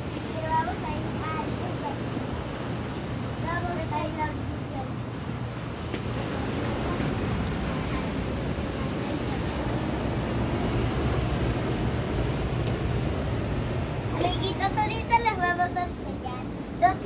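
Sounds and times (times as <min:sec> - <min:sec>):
ocean surf: 0:00.0 - 0:17.0.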